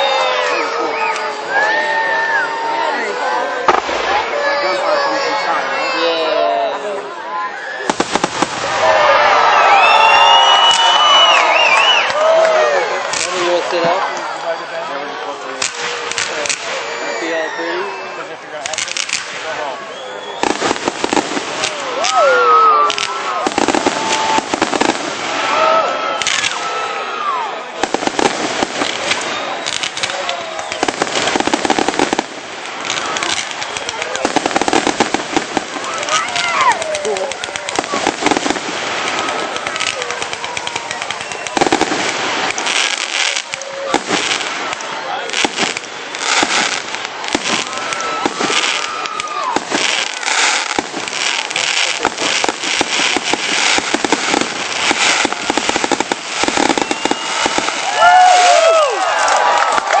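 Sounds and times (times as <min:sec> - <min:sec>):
fireworks crackling: 0:00.0 - 1:00.0.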